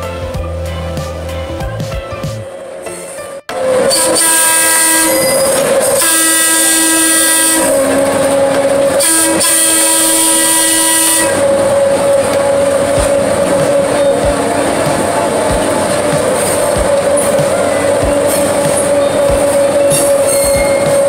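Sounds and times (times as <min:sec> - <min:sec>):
train rolling noise: 0:00.0 - 0:21.0
locomotive air horn blasts: 0:03.0 - 0:21.0.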